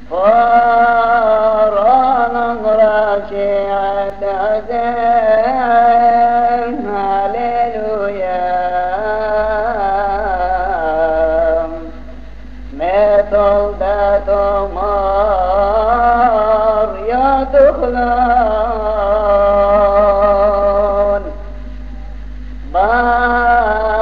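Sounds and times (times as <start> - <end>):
low steady hum: 0.0 - 24.0
man chanting a hymn: 0.1 - 24.0.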